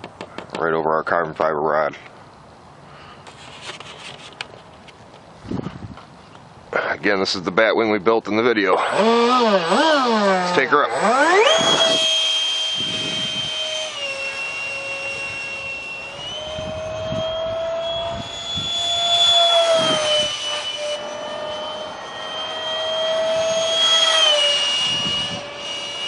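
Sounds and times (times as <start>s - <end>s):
electric ducted fan whine: 0.0s - 26.0s.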